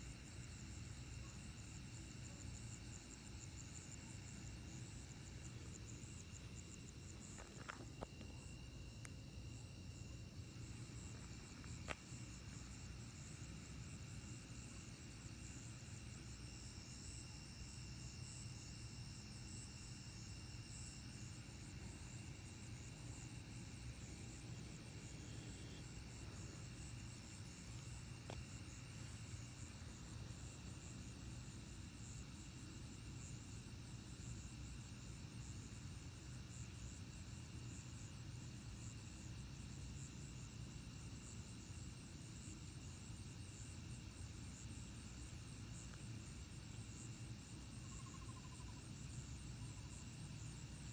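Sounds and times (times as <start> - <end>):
crickets and insects trilling: 0.0 - 50.9.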